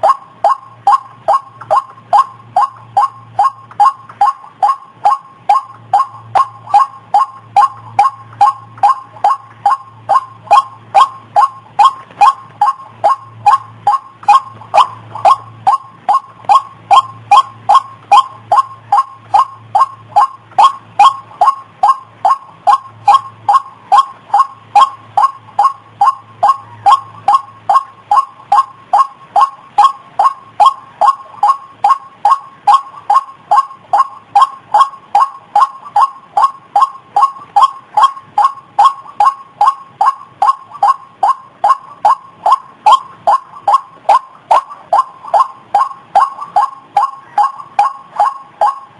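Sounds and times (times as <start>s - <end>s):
two-note bird calls: 0.0s - 48.9s.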